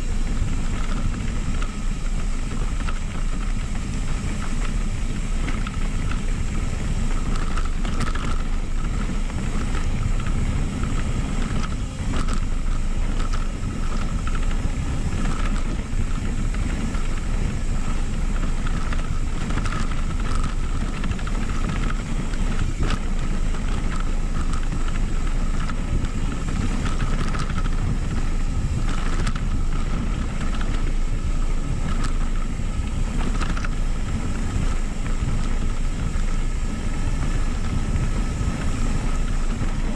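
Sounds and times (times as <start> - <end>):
bike clicks and rattles: 0.0 - 39.9
bike tyres on gravel: 0.0 - 39.9
steady buzz: 0.0 - 39.9
wind on microphone: 0.0 - 39.9.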